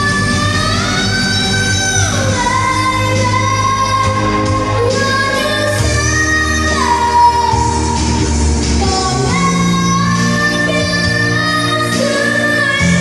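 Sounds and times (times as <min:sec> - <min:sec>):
girl singing into a microphone: 0:00.0 - 0:13.0
recorded backing track: 0:00.0 - 0:13.0.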